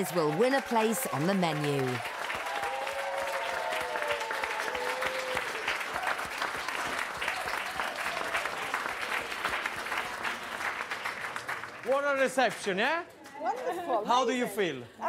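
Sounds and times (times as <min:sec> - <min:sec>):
crowd clapping: 0:00.0 - 0:13.7.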